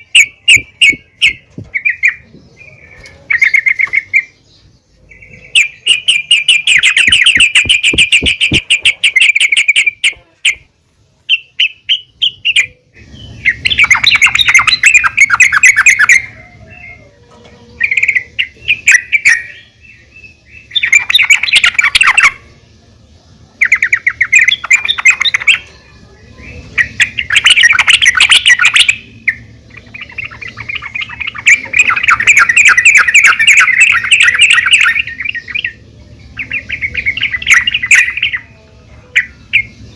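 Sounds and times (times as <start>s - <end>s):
bulbul chattering calls: 0.0s - 10.7s, 11.3s - 17.1s, 17.7s - 22.6s, 23.5s - 39.9s.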